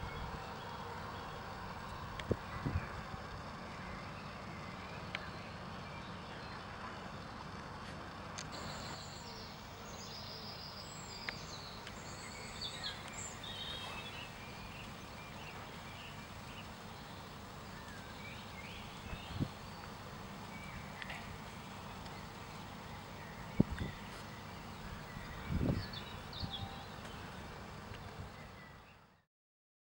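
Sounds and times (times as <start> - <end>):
steady low rumble: 0.0 - 28.7
small birds chirping: 0.0 - 29.2.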